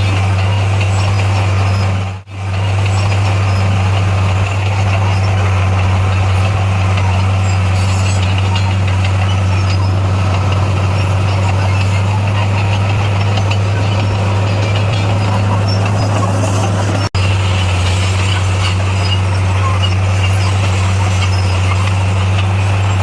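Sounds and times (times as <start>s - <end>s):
diesel engine drone: 0.0s - 23.0s.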